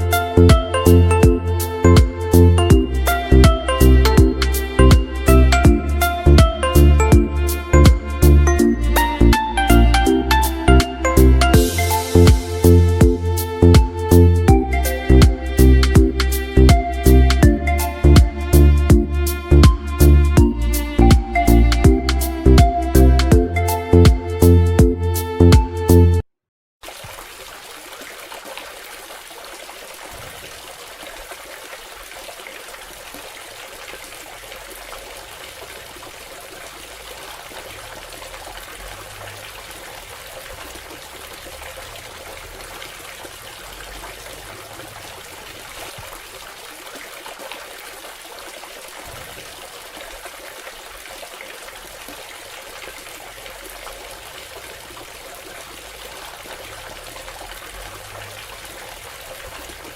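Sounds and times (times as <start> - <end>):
water trickling down fountain: 0.0 - 20.4, 26.8 - 59.9.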